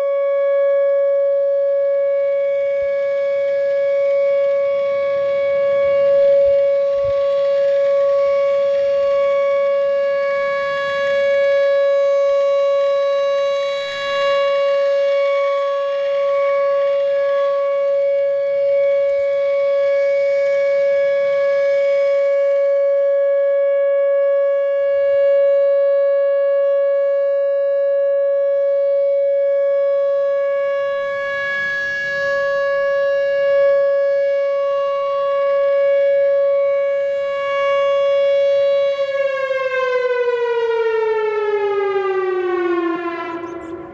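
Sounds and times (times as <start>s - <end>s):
electronic warning siren: 0.0s - 43.9s.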